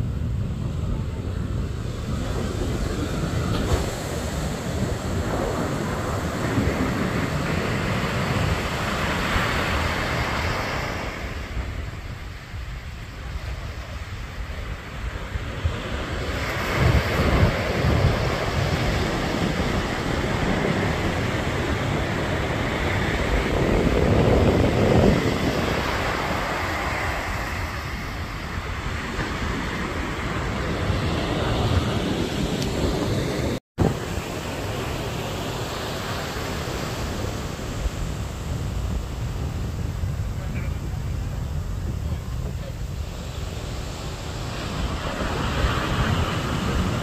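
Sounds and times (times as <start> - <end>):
ocean surf breaking: 0.0 - 47.0
wind buffeting microphone: 0.0 - 47.0.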